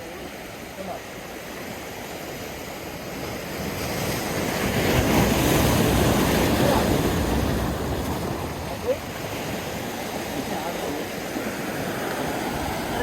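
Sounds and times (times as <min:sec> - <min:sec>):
water at the shore: 0:00.0 - 0:13.0
rushing wind: 0:01.1 - 0:13.0.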